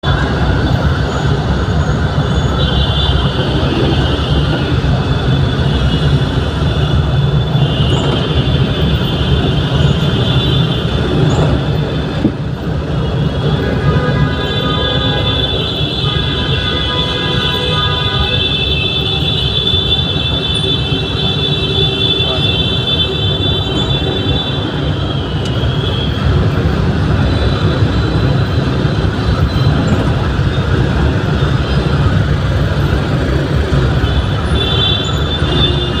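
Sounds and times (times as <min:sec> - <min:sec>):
heavy vehicle traffic rumble: 0:00.0 - 0:36.0.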